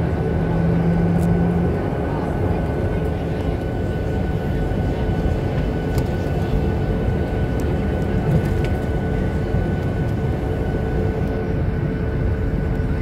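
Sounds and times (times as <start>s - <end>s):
deep engine rumble: 0.0s - 13.0s
steady engine whine: 0.0s - 13.0s.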